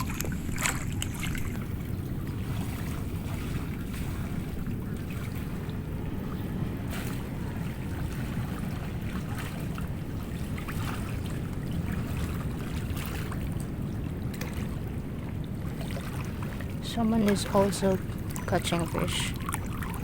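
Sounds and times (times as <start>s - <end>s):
light water splashes: 0.0s - 20.0s
moving water: 0.0s - 20.0s
wind rumble on microphone: 0.0s - 20.0s.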